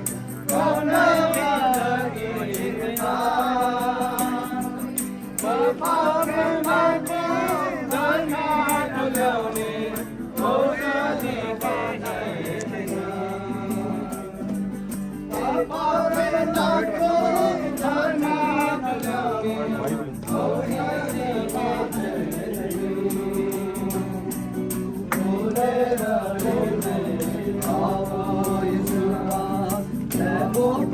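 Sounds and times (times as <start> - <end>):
group singing gospel song: 0.0 - 30.9.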